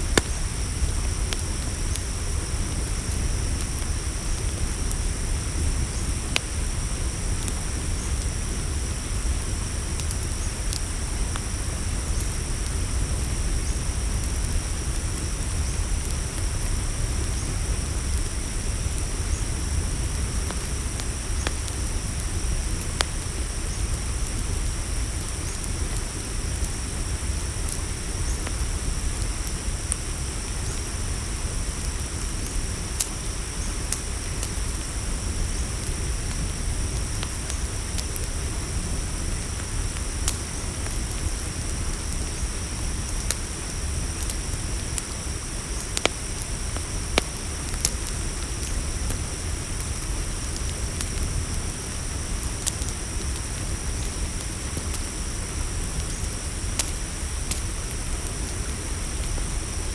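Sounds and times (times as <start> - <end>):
campfire crackling: 0.0 - 59.9
crickets chirring: 0.0 - 59.9.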